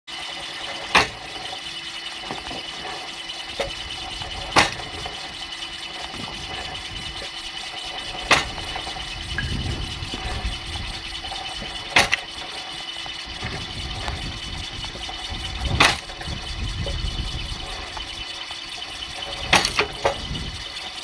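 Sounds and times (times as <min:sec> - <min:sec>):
firewood splitter running: 0:00.1 - 0:21.0.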